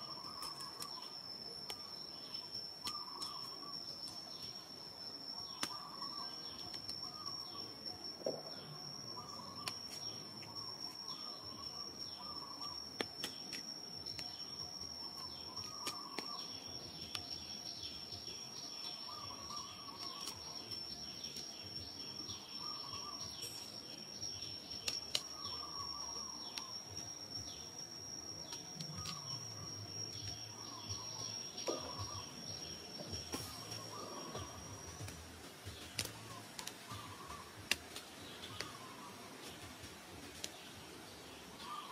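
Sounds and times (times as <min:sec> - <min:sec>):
bird chirping: 0:00.0 - 0:41.9
insect drone: 0:00.0 - 0:41.9.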